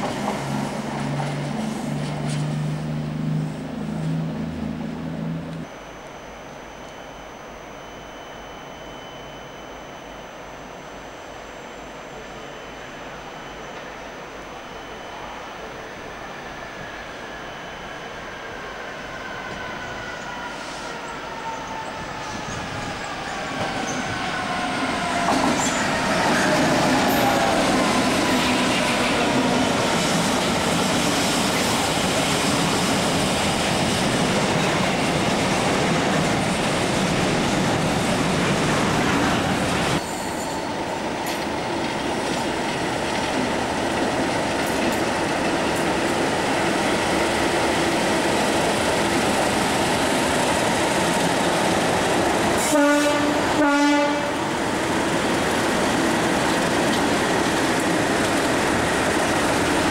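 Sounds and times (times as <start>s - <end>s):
diesel locomotive passing: 0.0s - 6.9s, 11.0s - 59.9s
diesel locomotives running: 0.0s - 59.9s.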